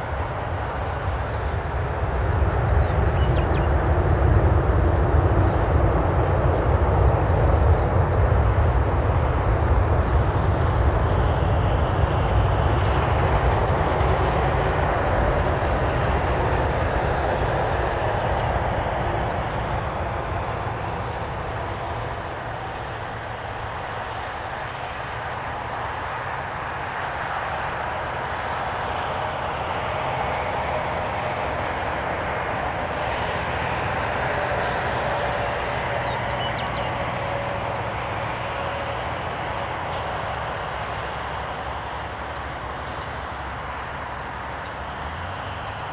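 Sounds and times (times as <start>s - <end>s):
deep rumble of airliner rolling: 0.0s - 45.9s
jet engine roar: 0.0s - 45.9s.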